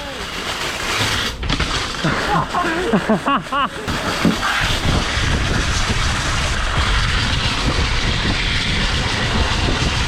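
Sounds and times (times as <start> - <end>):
metal bike rim rolling on ground: 0.0 - 10.0.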